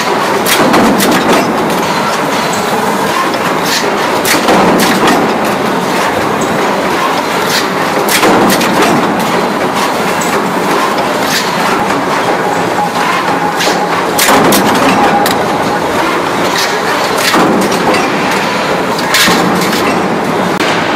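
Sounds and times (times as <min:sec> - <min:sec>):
metal clanks and knocks: 0:00.0 - 0:20.9
punch presses running: 0:00.0 - 0:20.9.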